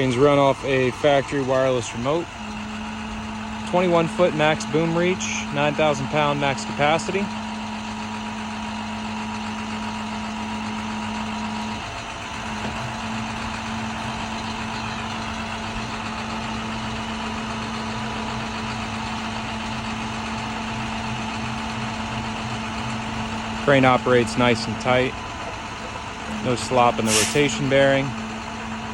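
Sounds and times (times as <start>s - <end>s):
diesel engine running steadily: 0.0s - 28.9s.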